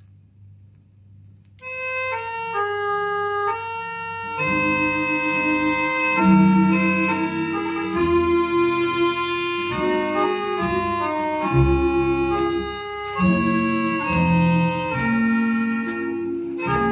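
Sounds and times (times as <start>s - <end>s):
record hum: 0.0s - 16.9s
organ melody: 1.6s - 16.9s.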